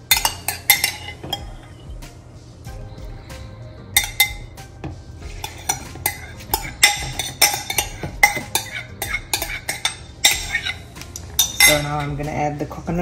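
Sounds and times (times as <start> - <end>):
utensils and dishes clinking: 0.0 - 2.0, 3.9 - 13.0.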